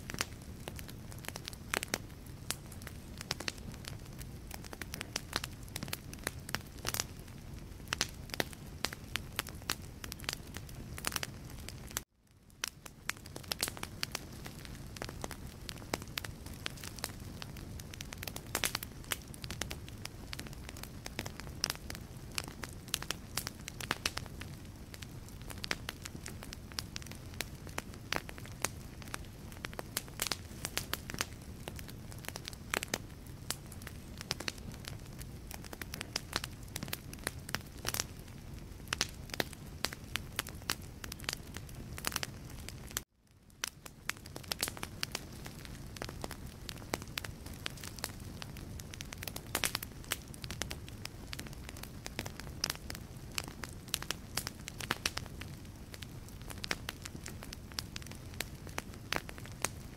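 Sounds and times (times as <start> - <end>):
logs crackling and popping: 0.0 - 59.9
low rumble of flame: 0.0 - 59.9.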